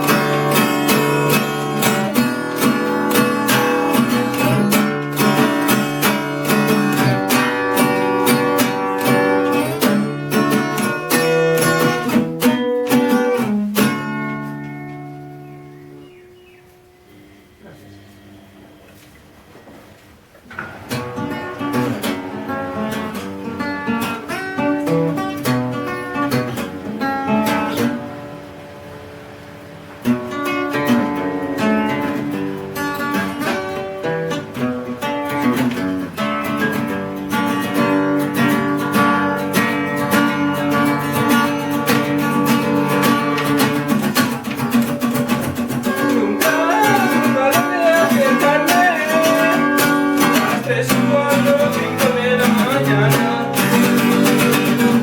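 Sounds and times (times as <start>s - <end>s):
acoustic guitar music: 0.0s - 55.0s.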